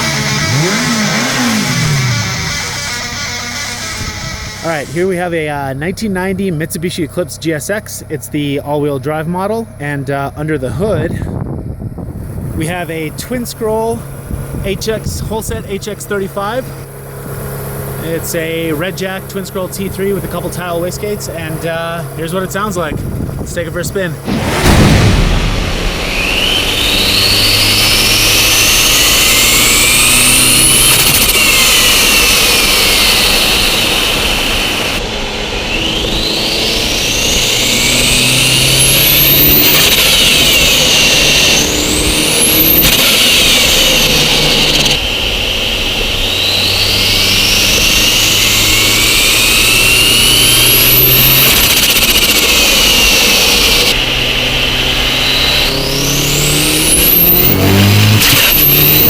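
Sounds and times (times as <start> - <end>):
turbocharger whine and whistle: 0.0 - 5.9, 11.3 - 59.0.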